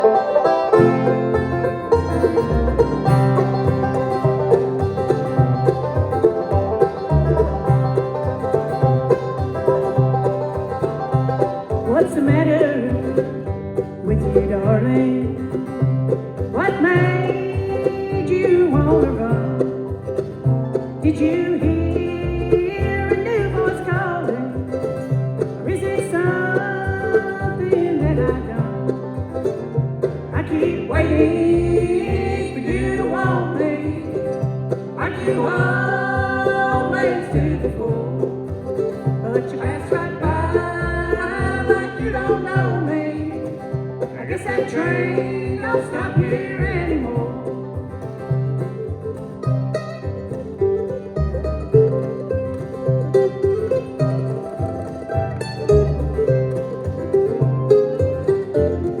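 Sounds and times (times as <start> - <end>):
banjo: 0.0 - 59.0
guitar: 0.0 - 59.0.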